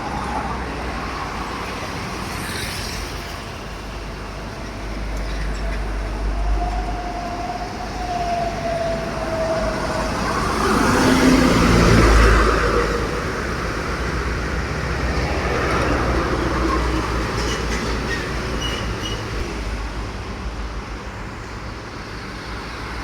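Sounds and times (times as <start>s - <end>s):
trucks passing: 0.0s - 23.0s.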